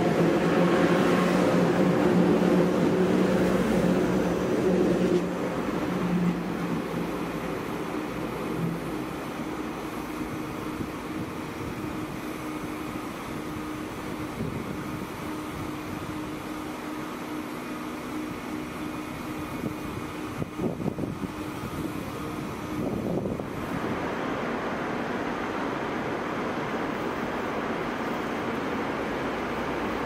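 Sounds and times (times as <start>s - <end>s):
electric train hum and rumble: 0.0s - 30.0s.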